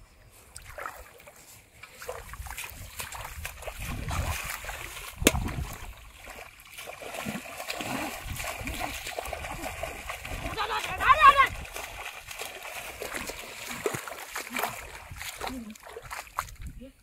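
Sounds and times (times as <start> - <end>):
water splashing and sloshing: 0.2 - 17.0.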